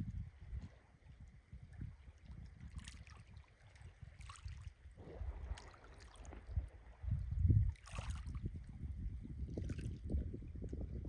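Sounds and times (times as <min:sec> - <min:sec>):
water lapping and splashing: 0:00.0 - 0:10.4
wind on microphone: 0:00.0 - 0:11.0.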